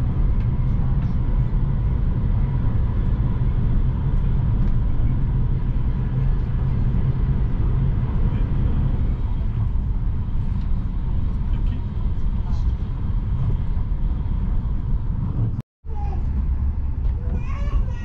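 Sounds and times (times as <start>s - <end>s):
train rumble from inside carriage: 0.0s - 18.0s.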